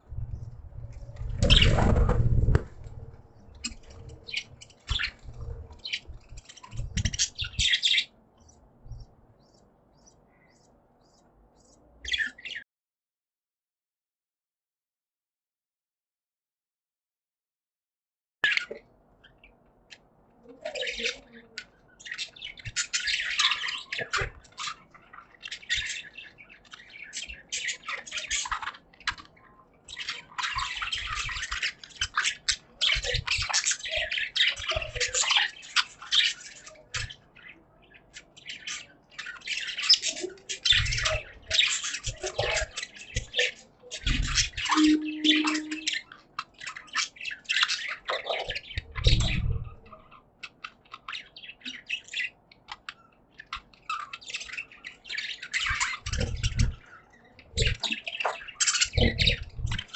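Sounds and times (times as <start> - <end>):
budgies chattering and chirping: 0.1 - 12.6, 18.5 - 59.9.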